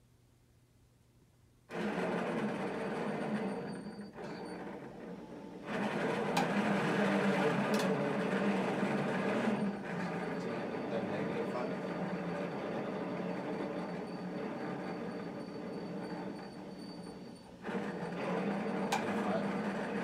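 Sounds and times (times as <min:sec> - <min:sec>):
electric motors humming: 0:01.7 - 0:20.0.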